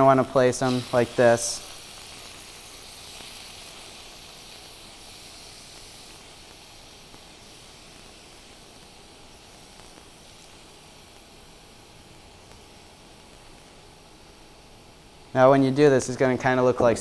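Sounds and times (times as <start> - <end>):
oil sizzling in pan: 0.0 - 15.4.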